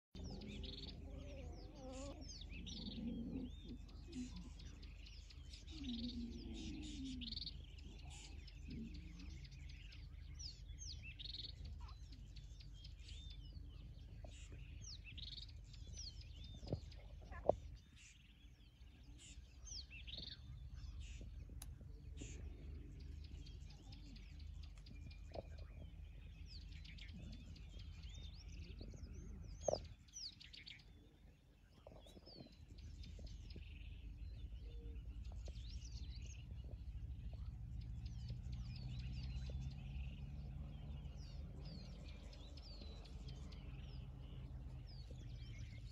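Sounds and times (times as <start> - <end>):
birds chirping and whistling: 0.2 - 45.9
steady low rumble: 0.2 - 45.9.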